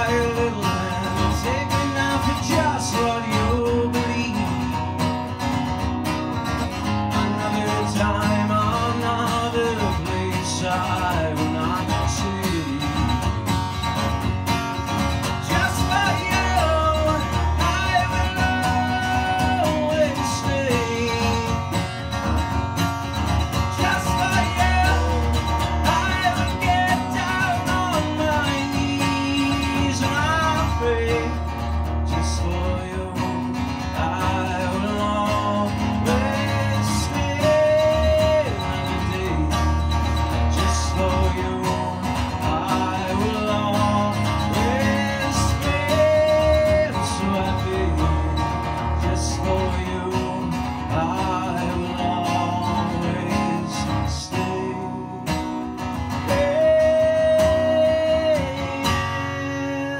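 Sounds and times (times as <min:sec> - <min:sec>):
man singing: 0:00.0 - 0:05.3, 0:06.7 - 0:14.1, 0:14.8 - 0:59.9
acoustic guitar strumming: 0:00.0 - 0:59.9.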